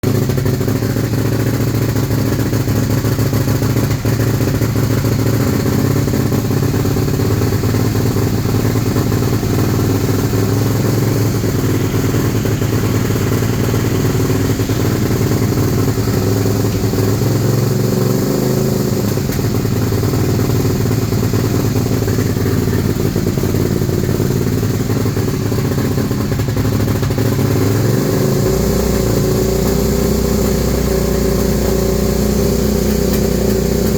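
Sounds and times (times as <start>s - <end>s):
engine backfiring: 0.0s - 33.9s
motorcycle engine misfiring: 0.0s - 33.9s.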